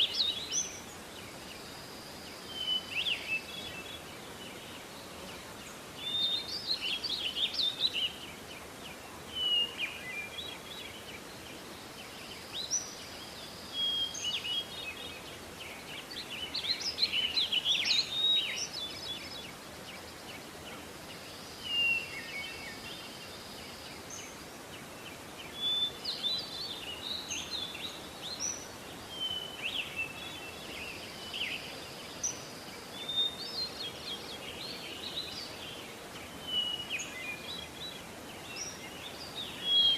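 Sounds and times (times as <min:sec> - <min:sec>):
outdoor background hiss: 0:00.0 - 0:39.9
songbirds chirping: 0:00.0 - 0:39.9.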